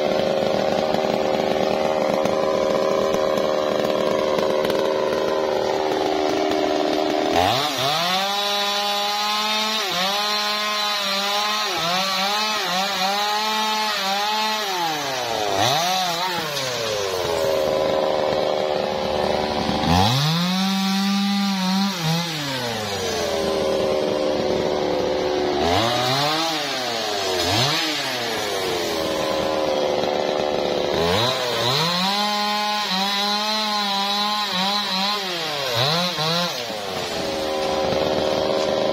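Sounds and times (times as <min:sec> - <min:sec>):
chainsaw cutting tree trunk: 0:00.0 - 0:38.9
chainsaw idling and revving: 0:00.0 - 0:38.9.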